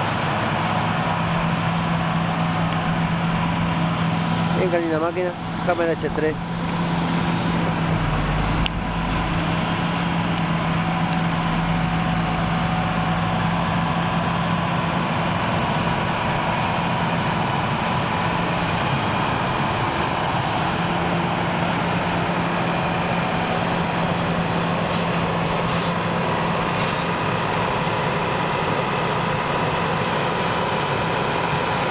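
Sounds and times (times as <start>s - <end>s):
diesel engine low drone: 0.0s - 31.9s.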